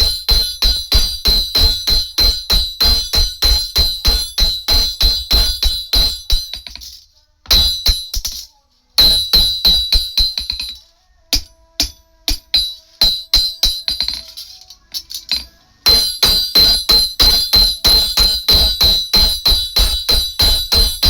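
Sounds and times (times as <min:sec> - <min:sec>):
hammer striking steel on anvil: 0:00.0 - 0:21.0.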